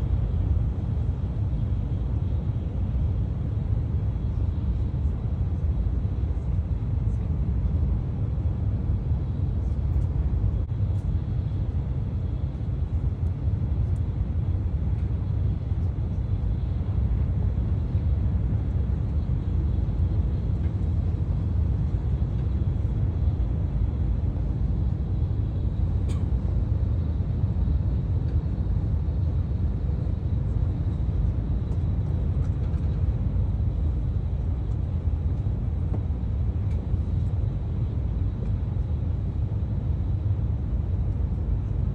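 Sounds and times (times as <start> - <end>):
train rumble inside carriage: 0.0 - 41.9.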